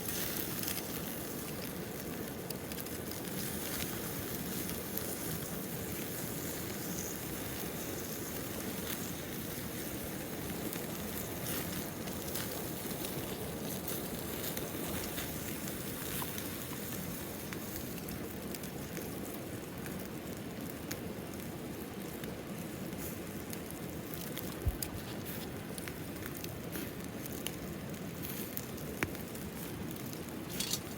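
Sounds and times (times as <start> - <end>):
campfire crackles and pops: 0.0 - 30.9.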